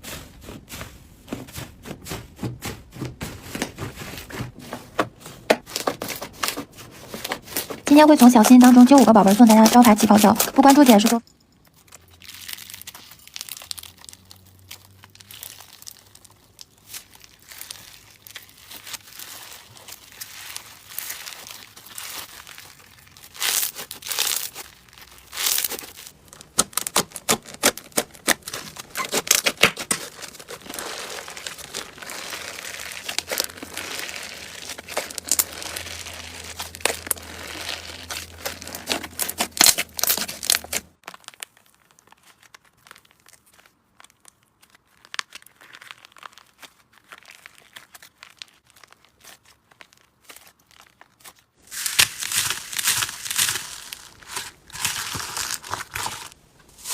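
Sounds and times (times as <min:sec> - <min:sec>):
slime crackling and popping: 0:05.6 - 0:11.2, 0:12.0 - 0:56.9.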